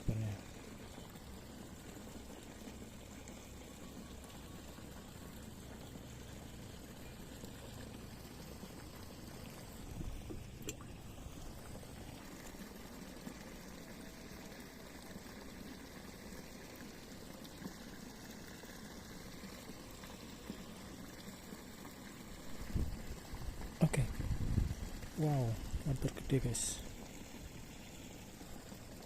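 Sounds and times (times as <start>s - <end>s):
stream water trickling: 0.0s - 29.0s.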